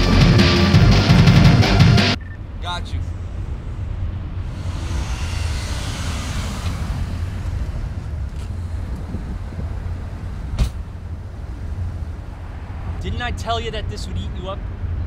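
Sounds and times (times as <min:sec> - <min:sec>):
traffic rumble: 0:00.0 - 0:15.0
wind: 0:02.2 - 0:15.0.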